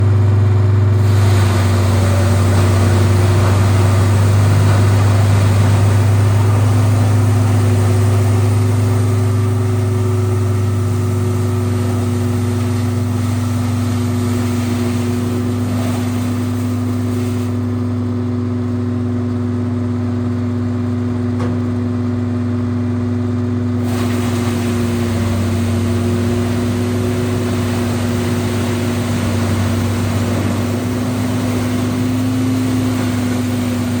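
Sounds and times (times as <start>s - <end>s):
wood chipper engine droning: 0.0s - 34.0s.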